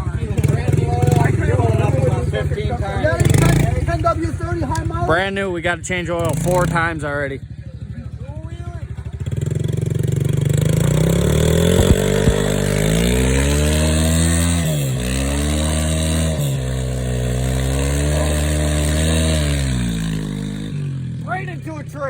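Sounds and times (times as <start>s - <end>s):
motorbike engine revving: 0.0s - 8.2s, 8.8s - 22.0s.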